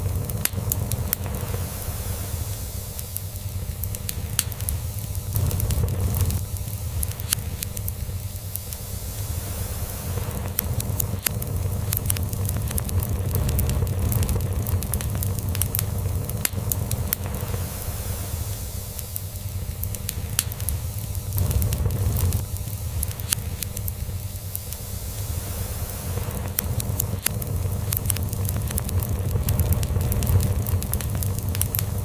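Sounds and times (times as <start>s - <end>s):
log fire crackling and popping: 0.0s - 32.0s.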